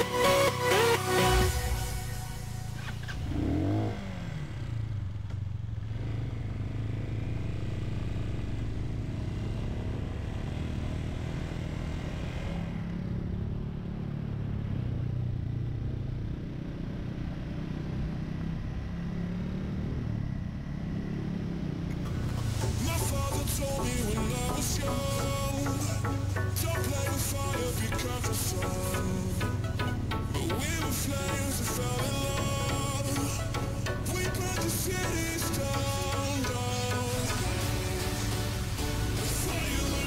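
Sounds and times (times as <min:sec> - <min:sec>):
road and wind noise: 0:00.0 - 0:40.0
motorcycle engine running: 0:01.5 - 0:40.0.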